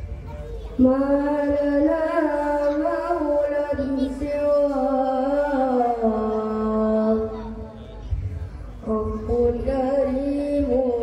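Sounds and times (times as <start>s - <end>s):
boy singing into a microphone: 0.2s - 11.0s.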